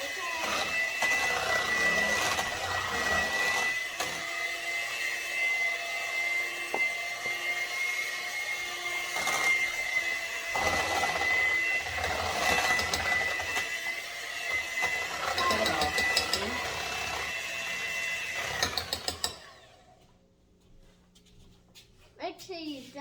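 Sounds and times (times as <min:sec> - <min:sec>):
electric hand mixer whining: 0:00.0 - 0:20.1.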